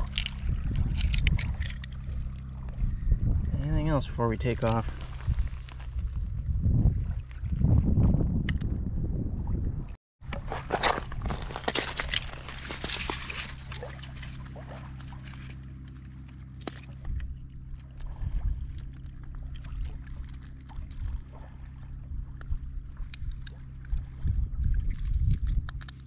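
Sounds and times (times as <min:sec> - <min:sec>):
boat motor running: 0:00.0 - 0:06.5, 0:10.2 - 0:26.0.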